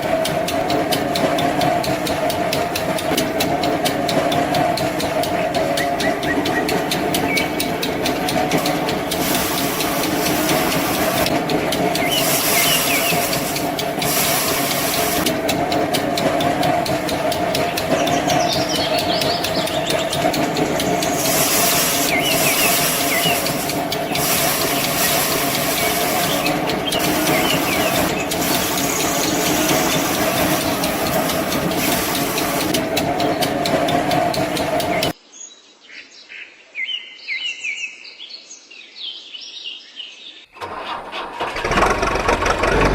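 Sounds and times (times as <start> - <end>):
machine motor humming: 0.0 - 35.2.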